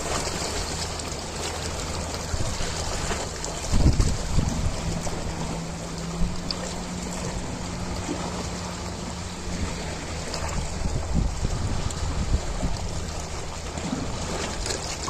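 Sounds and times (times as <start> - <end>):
ocean waves breaking: 0.0 - 15.0
steady low hum: 0.0 - 15.0.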